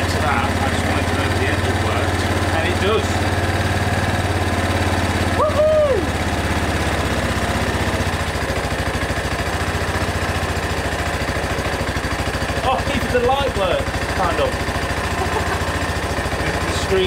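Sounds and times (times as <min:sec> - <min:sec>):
atv engine idling: 0:00.0 - 0:17.0.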